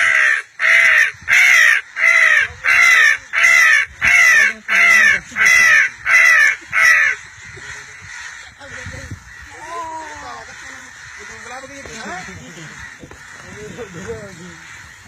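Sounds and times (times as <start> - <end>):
person imitating crow caws: 0.0 - 14.7.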